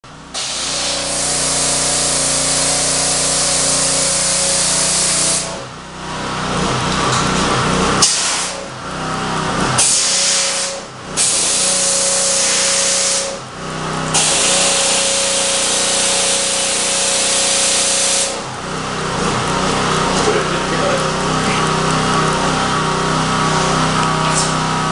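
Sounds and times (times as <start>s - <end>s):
pump running steadily: 0.1s - 24.9s
pressure washer spraying metal: 0.3s - 5.6s, 7.6s - 24.9s.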